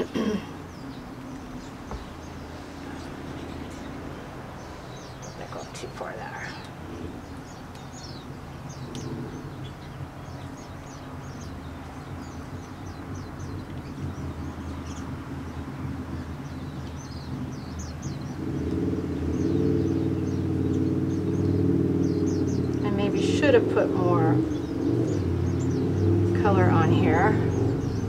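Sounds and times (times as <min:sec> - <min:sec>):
birds chirping: 0:00.0 - 0:28.0
low engine-like hum: 0:00.0 - 0:28.0.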